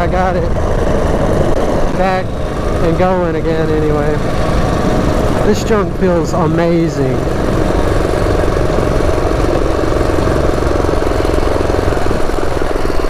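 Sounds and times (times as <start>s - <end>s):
mini bike engine cruising: 0.0s - 13.0s.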